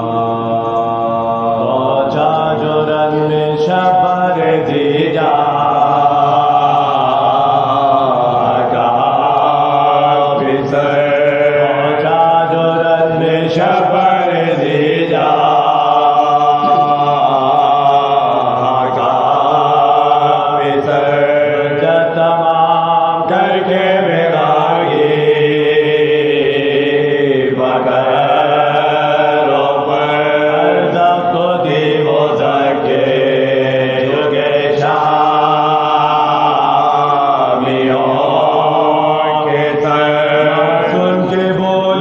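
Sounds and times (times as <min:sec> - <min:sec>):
men chanting unaccompanied: 0:00.0 - 0:42.0
steady low drone: 0:00.0 - 0:42.0.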